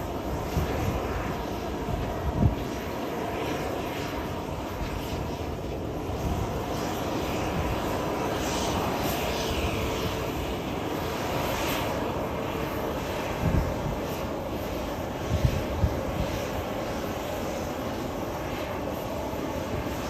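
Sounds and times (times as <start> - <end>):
jet engines running: 0.0 - 20.0.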